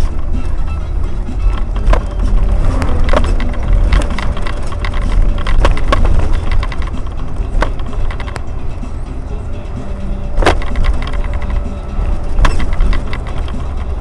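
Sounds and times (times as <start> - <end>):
loose fittings clattering: 0.0 - 8.9, 10.2 - 14.0
bus engine and road rumble: 0.0 - 14.0.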